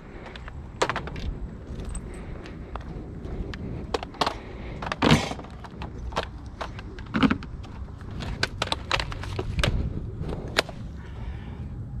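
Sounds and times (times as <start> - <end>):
hard objects clicking and clattering: 0.1 - 9.8.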